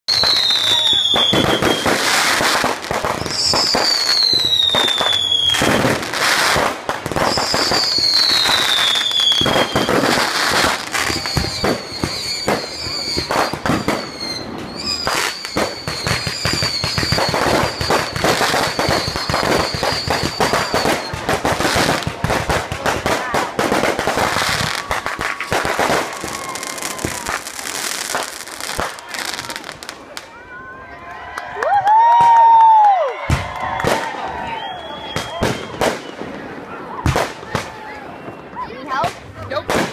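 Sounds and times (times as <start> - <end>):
high falling firework whistles: 0.1 - 22.0, 23.8 - 29.8, 31.8 - 36.5
long warbling firework whistle: 0.1 - 22.0, 23.8 - 30.9, 31.6 - 36.8, 37.6 - 38.9
firework bangs and crackling: 0.1 - 30.9, 31.6 - 39.9.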